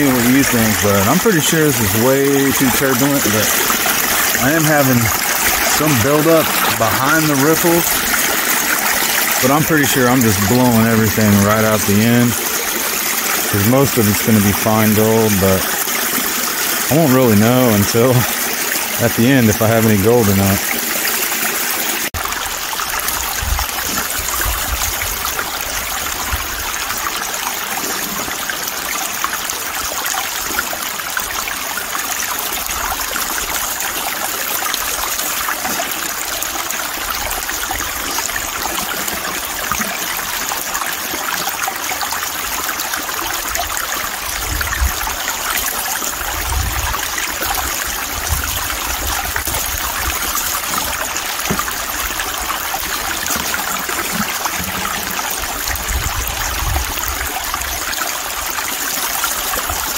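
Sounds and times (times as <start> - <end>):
water rushing through sluice box: 0.0 - 59.9.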